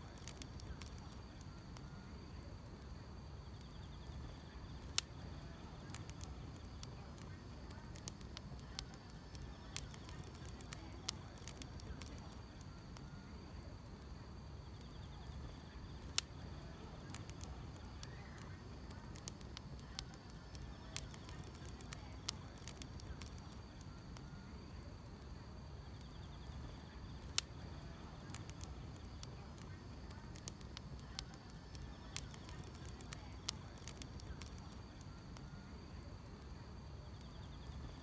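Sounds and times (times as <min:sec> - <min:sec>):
insects chirring: 0:00.0 - 0:38.0
wood fire crackling and popping: 0:00.0 - 0:38.0.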